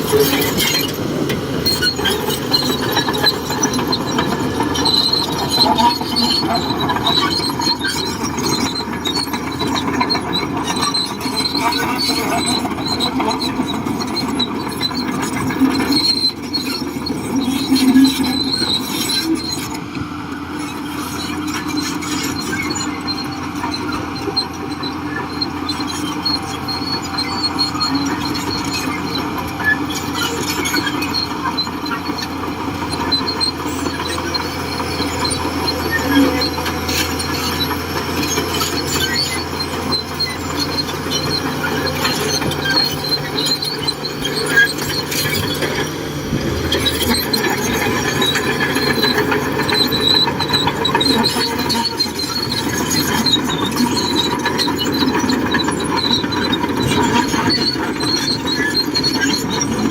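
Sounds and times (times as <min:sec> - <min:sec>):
bulldozer engine running: 0:00.0 - 0:59.9
steel tracks squealing: 0:00.0 - 0:59.9.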